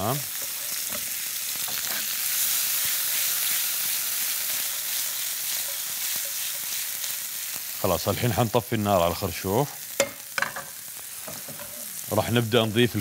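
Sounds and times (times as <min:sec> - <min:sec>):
artichoke hearts sizzling in a pan: 0:00.0 - 0:13.0.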